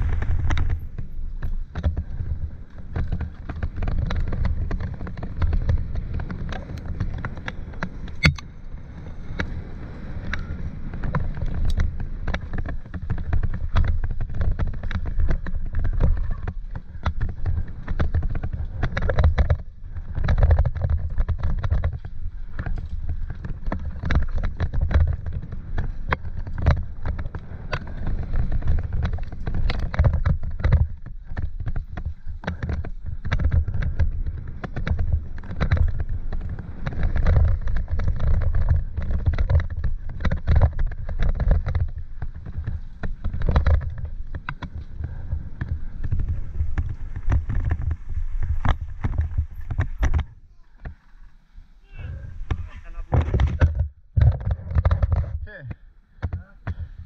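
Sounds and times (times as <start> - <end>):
bike clicking and knocking: 0.0 - 51.4, 52.4 - 57.0
wind rumble on microphone: 0.0 - 57.0.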